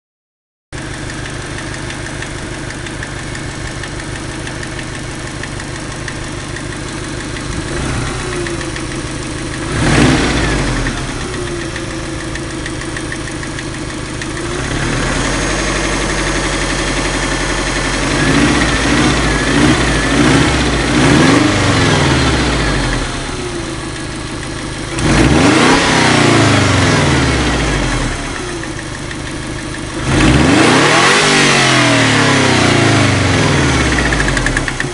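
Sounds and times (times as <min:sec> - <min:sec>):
car engine idling and revving: 0:00.8 - 0:34.9.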